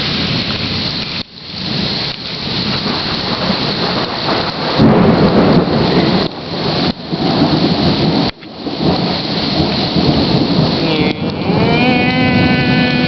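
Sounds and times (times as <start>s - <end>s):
heavy rain: 0.0s - 13.0s
thunder rumble: 0.0s - 13.0s.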